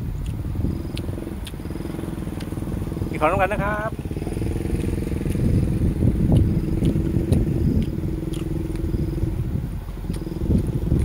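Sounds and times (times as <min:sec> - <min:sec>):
irregular low rumbles: 0:00.0 - 0:11.0
small engine running: 0:00.2 - 0:11.0.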